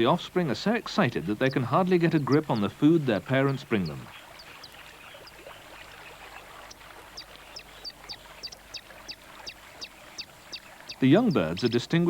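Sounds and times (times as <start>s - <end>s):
faint river water: 0.0s - 12.0s
kingfishers calling: 0.0s - 12.0s.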